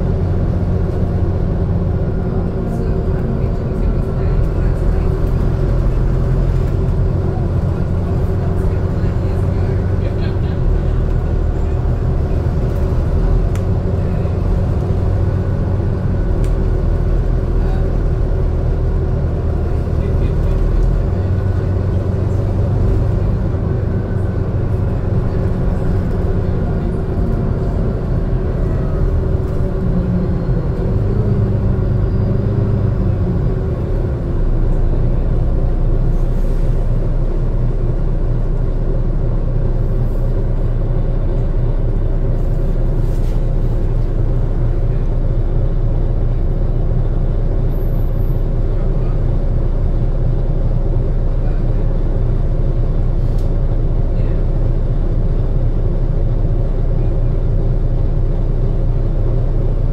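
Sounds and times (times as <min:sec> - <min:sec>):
bus diesel engine running: 0:00.0 - 0:59.9
deep low rumble: 0:00.0 - 0:59.9
road and cabin rumble: 0:00.0 - 0:59.9.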